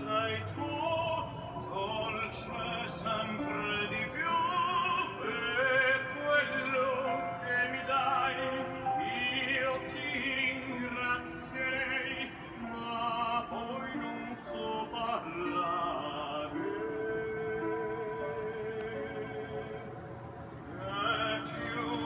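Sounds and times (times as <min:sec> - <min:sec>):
operatic song with vibrato: 0:00.0 - 0:20.1.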